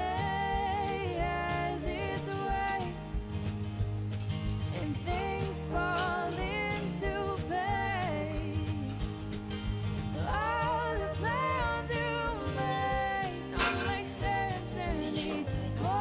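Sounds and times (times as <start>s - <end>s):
song with singing voice: 0.0s - 3.6s, 4.4s - 16.0s.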